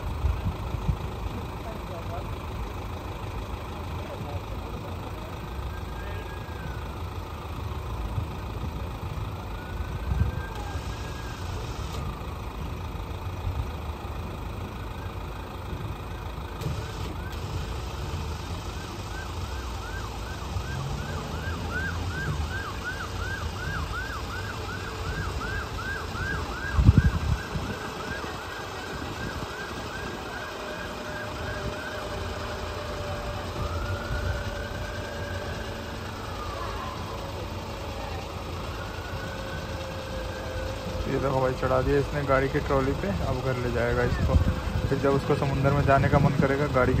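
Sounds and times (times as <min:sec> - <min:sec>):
low engine rumble: 0:00.0 - 0:47.0
emergency siren yelping and wailing: 0:00.6 - 0:47.0.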